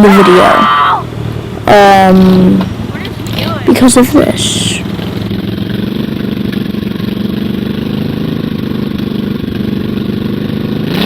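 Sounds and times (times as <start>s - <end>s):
motorcycle engine idling: 1.0s - 10.9s.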